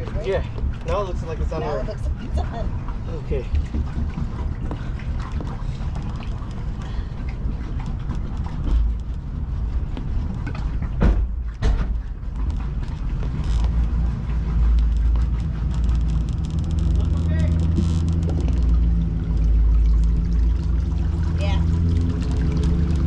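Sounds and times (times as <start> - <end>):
engine running low: 0.0 - 23.0.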